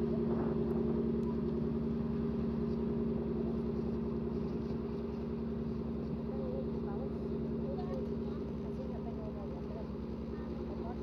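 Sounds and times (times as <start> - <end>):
ship diesel engine throbbing: 0.0 - 11.0.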